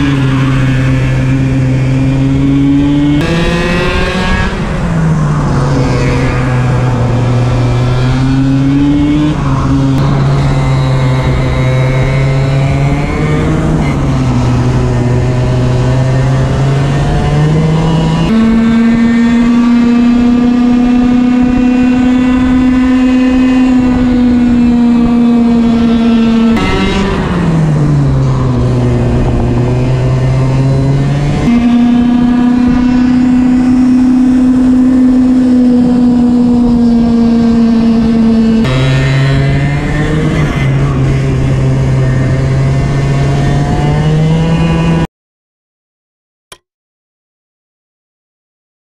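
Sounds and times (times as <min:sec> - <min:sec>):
kart engine at high revs: 0:00.0 - 0:45.1.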